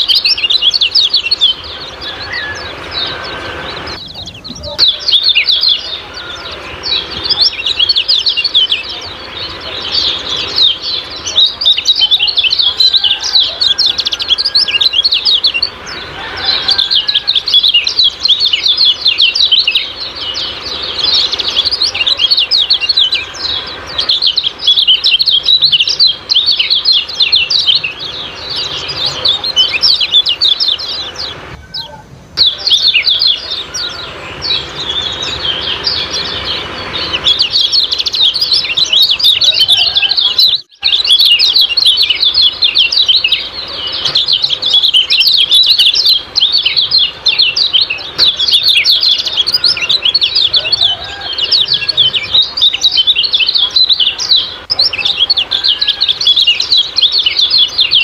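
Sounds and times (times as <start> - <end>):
songbirds chirping rapidly: 0.0 - 58.0.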